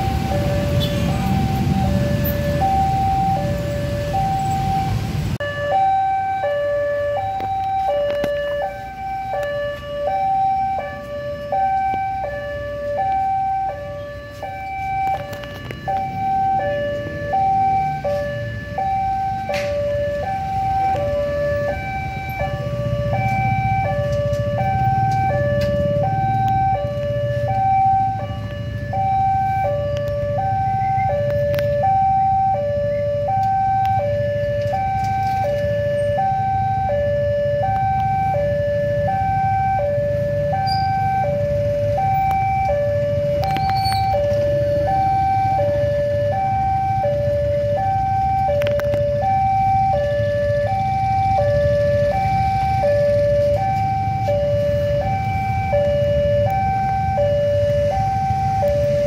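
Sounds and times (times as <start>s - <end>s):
level crossing two-tone alarm: 0.0s - 59.0s.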